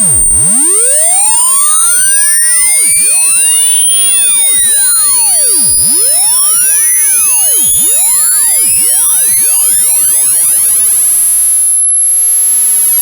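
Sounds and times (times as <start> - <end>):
rising sine-wave tone: 0.0 - 13.0.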